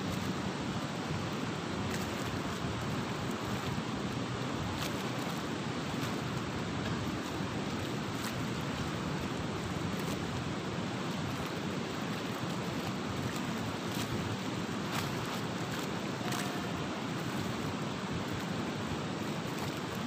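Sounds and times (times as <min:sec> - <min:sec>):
fast-flowing river rushing: 0:00.0 - 0:20.0
wind: 0:00.0 - 0:20.0.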